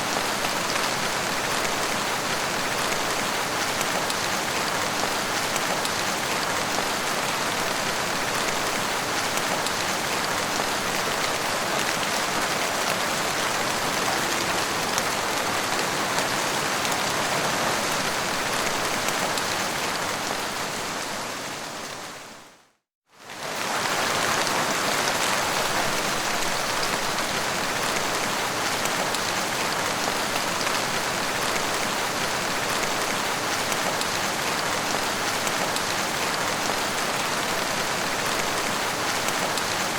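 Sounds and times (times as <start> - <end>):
rain pattering: 0.0 - 22.1, 23.3 - 39.9.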